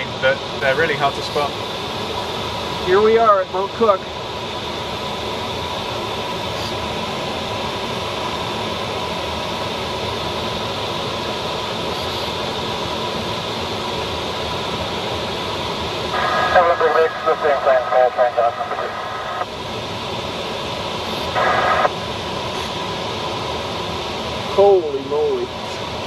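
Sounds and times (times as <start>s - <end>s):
rush of air over canopy: 0.0s - 26.0s.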